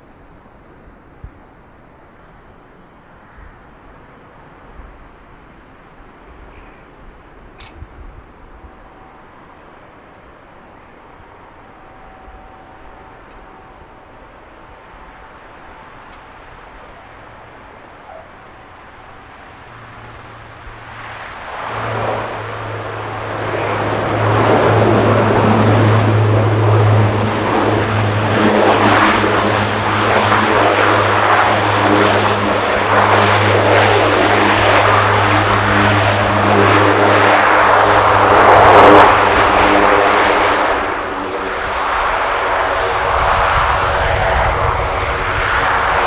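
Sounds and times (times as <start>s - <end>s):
plane passing close by: 0.0s - 46.0s.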